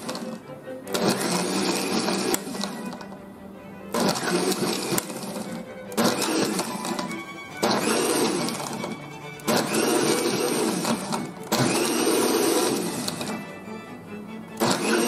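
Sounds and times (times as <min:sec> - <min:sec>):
blender motor whining: 0:00.0 - 0:03.2, 0:03.9 - 0:15.0.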